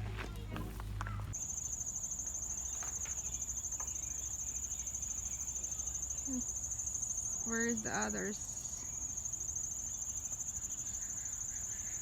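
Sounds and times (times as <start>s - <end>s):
insects chirping high trill: 1.3s - 12.0s.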